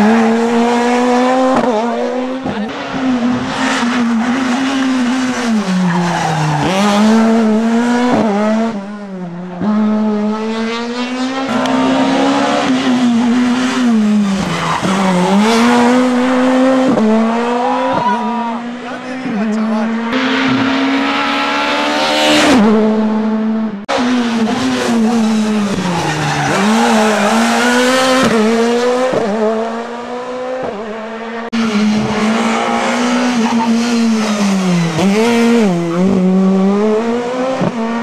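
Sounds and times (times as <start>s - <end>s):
rally car engine revving: 0.0s - 38.0s.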